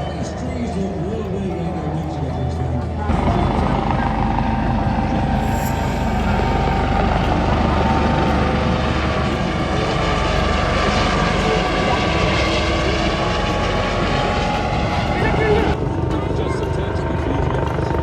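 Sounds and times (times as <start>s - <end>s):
aircraft engine drone overhead: 0.0s - 18.0s.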